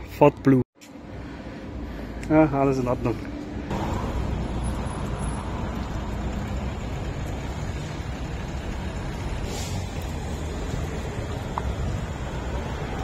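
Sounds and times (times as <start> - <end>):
passing cars: 1.2 - 13.0.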